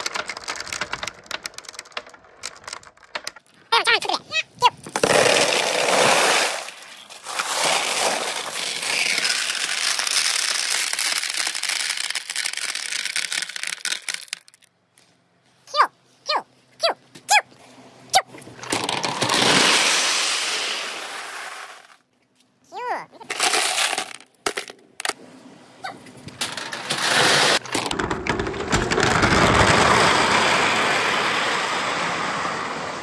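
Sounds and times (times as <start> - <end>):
balls rolling through bamboo tubes: 0.0 - 14.7, 18.1 - 22.0, 22.7 - 33.0.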